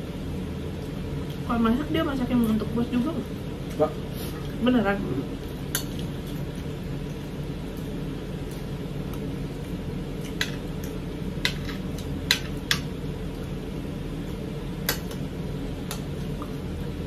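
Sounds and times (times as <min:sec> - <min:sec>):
low hum of room machinery: 0:00.0 - 0:17.0.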